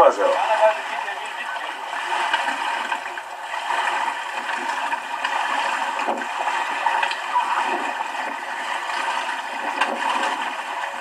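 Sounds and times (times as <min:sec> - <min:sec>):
water gurgling and sloshing: 0:00.0 - 0:11.0.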